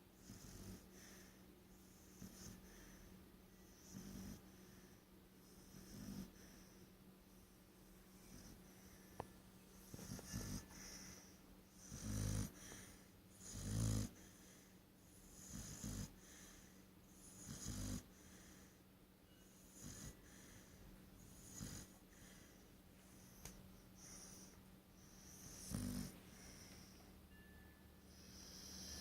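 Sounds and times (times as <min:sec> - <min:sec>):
dog snoring: 0:00.2 - 0:06.8, 0:08.1 - 0:09.1, 0:09.8 - 0:18.8, 0:19.4 - 0:22.6, 0:23.2 - 0:27.0, 0:28.1 - 0:29.0.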